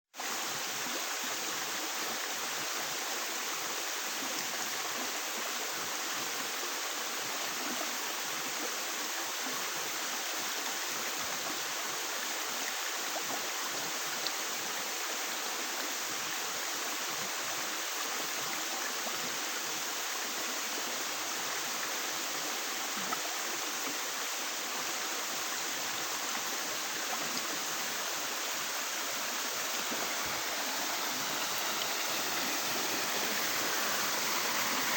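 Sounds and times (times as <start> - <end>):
stream water flowing: 0.2 - 34.9.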